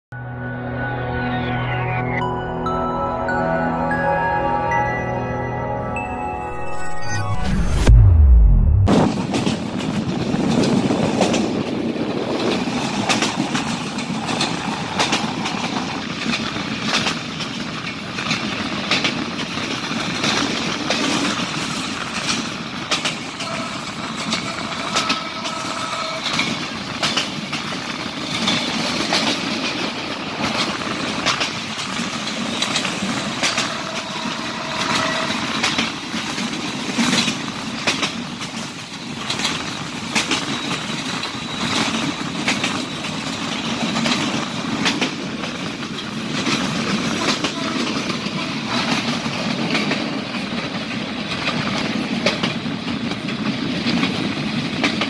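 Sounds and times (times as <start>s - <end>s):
train rumble and rushing air: 7.3s - 55.0s
wheels clattering on track: 9.0s - 55.0s.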